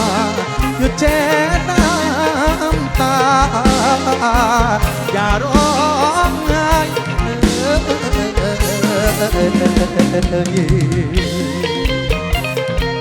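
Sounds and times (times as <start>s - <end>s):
bass: 0.0s - 13.0s
drum beat: 0.0s - 13.0s
plucked-string lead melody: 0.0s - 13.0s.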